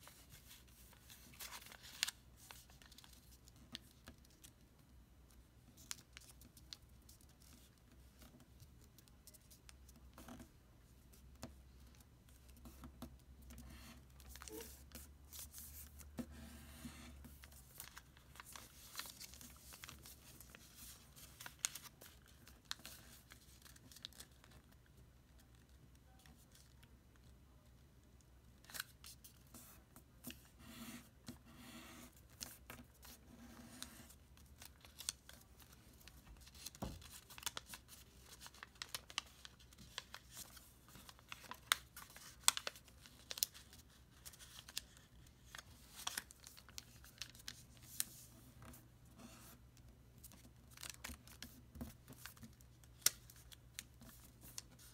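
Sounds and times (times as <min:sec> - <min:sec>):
paper crinkling and crackling: 0:00.0 - 0:04.6, 0:05.3 - 0:10.4, 0:11.4 - 0:16.2, 0:17.2 - 0:27.4, 0:32.2 - 0:48.8, 0:50.2 - 0:54.9.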